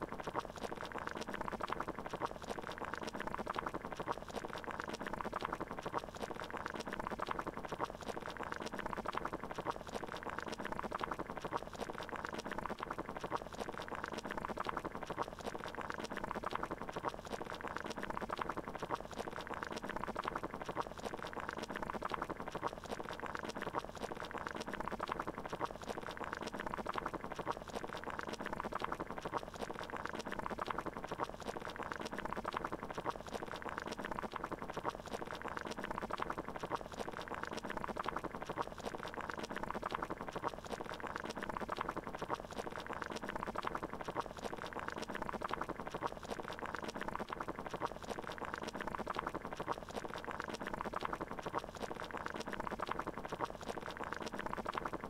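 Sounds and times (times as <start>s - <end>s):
water boiling: 0.0s - 55.0s.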